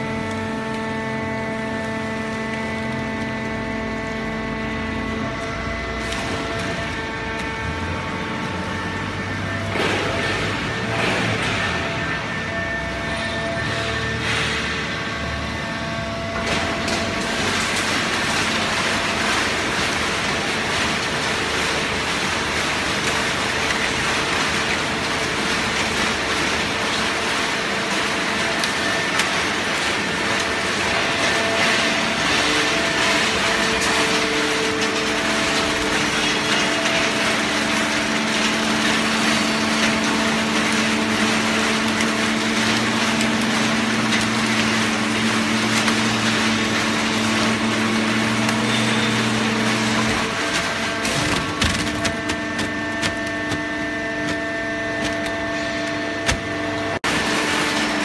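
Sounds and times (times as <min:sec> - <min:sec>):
hydraulic baling press running: 0:00.0 - 0:58.0.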